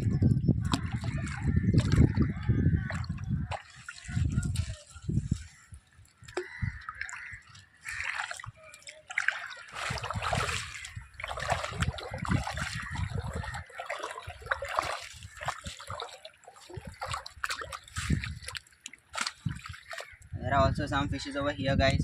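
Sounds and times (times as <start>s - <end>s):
shallow water sloshing and splashing: 0.0s - 20.4s.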